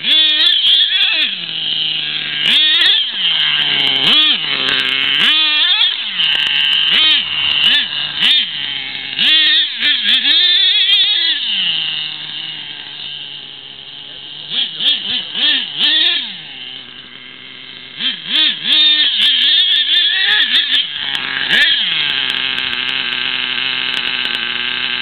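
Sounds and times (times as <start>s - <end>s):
model truck engine revving: 0.0s - 25.0s.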